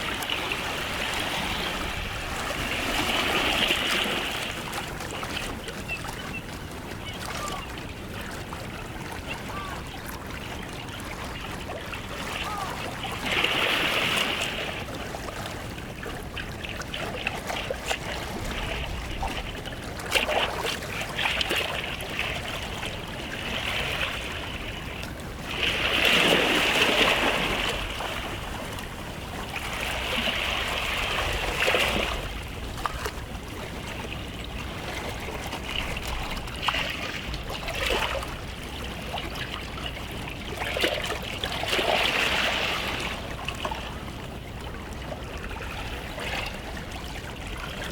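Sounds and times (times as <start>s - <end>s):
sea waves washing onto shore: 0.0s - 47.9s.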